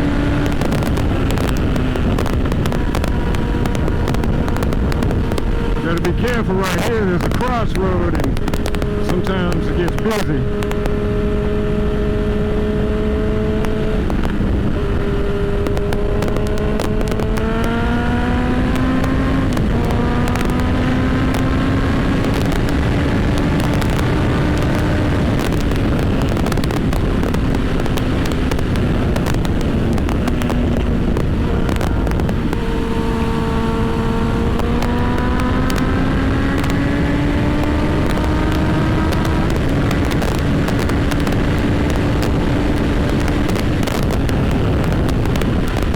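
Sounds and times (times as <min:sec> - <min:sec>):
motorcycle engine accelerating: 0:00.0 - 0:45.9
wind rush: 0:00.0 - 0:45.9.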